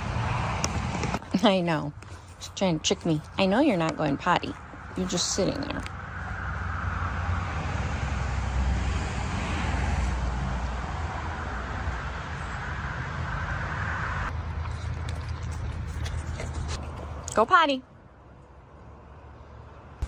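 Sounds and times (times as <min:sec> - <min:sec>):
outdoor rushing noise with rumble: 0:00.0 - 0:17.2.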